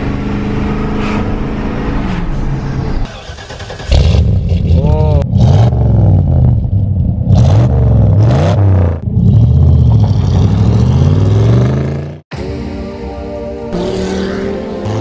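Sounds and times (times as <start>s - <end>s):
truck engine revving: 0.0s - 12.2s, 13.7s - 15.0s.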